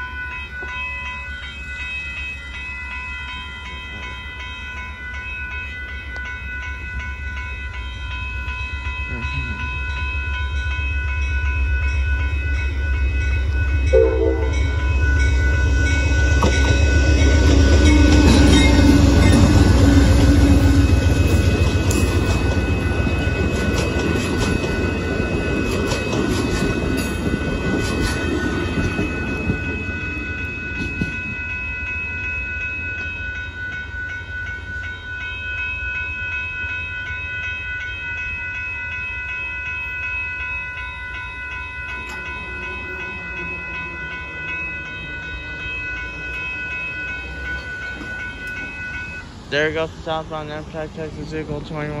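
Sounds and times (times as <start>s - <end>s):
crossing warning bell ringing: 0.0s - 52.0s
train wheels clacking on rails: 2.2s - 34.9s, 39.3s - 52.0s.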